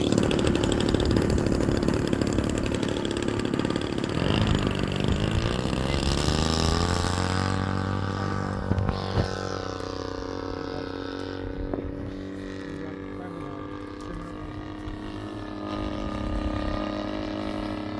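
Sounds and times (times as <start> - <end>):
model airplane engine flying past: 0.0 - 17.9.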